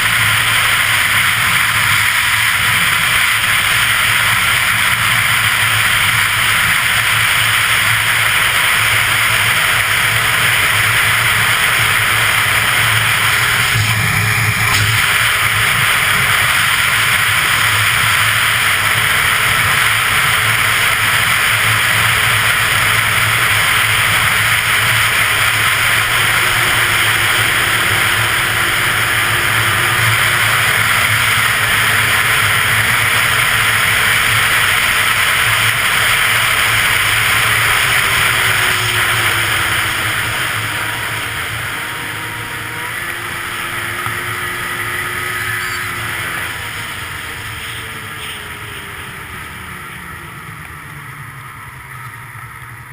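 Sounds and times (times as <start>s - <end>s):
snowmobile engine drone: 0.0s - 52.9s
track and wind rush: 0.0s - 52.9s.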